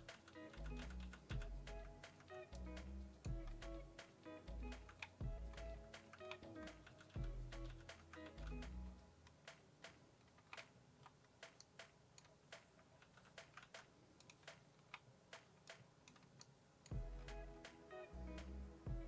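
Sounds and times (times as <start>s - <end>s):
keyboard and mouse clicking: 0.0s - 17.8s.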